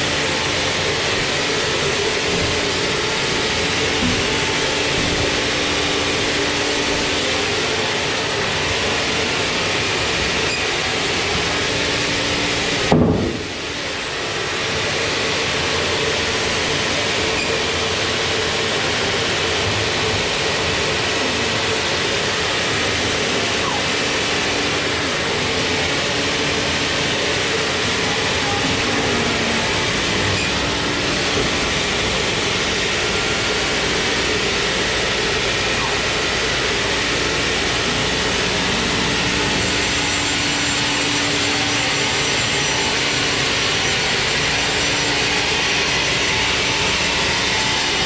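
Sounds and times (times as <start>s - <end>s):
sawmill machinery running: 0.0s - 48.0s.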